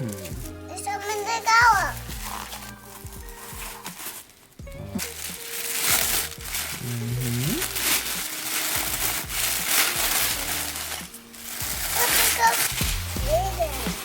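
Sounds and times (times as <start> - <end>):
paper crinkling: 0.0 - 14.0.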